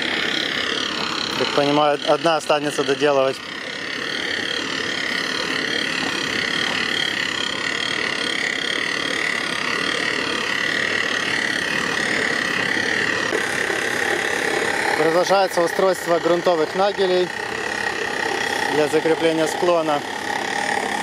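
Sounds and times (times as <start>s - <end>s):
construction machinery running: 0.0s - 21.0s
steady high whine: 0.0s - 21.0s.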